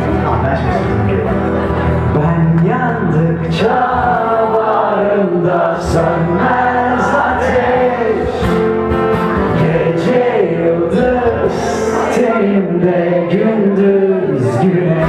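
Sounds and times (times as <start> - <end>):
strummed acoustic guitar: 0.0 - 15.0
man singing into a microphone: 2.1 - 8.6, 9.5 - 15.0.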